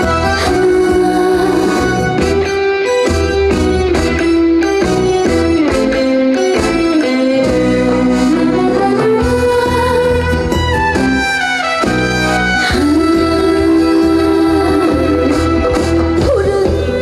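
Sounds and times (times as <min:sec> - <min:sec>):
lead instrument melody: 0:00.0 - 0:17.0
steady bass line: 0:00.0 - 0:17.0.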